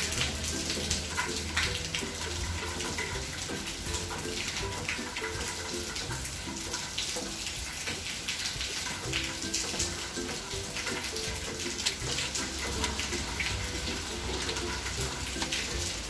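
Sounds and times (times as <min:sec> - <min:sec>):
background music melodic notes: 0:00.0 - 0:16.0
water running and splashing: 0:00.0 - 0:16.0.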